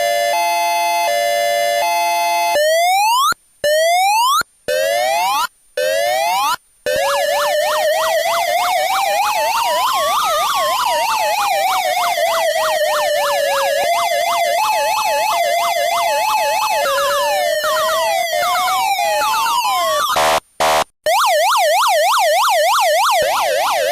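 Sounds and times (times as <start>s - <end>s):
police siren wail and yelp: 0.0s - 20.4s, 21.1s - 23.9s
siren hi-lo warble: 0.0s - 23.9s.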